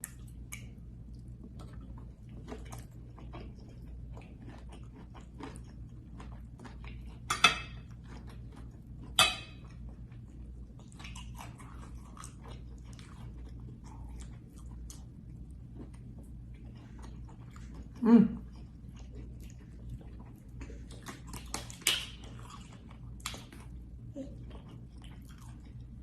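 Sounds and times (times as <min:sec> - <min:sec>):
chewing: 0:00.0 - 0:26.0
steady low hum: 0:00.0 - 0:26.0.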